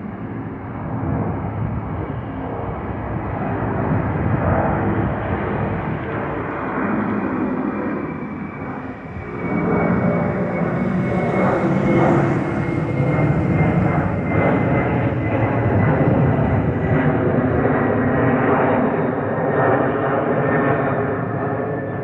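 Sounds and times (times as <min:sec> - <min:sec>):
jet engine rumble overhead: 0:00.0 - 0:22.0.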